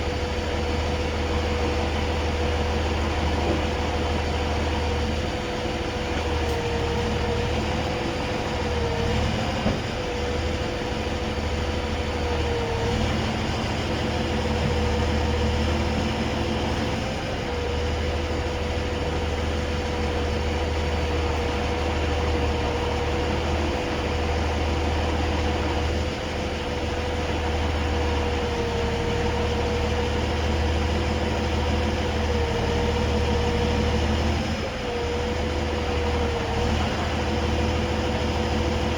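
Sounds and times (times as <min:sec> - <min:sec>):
truck engine rumbling with whine: 0:00.0 - 0:38.9.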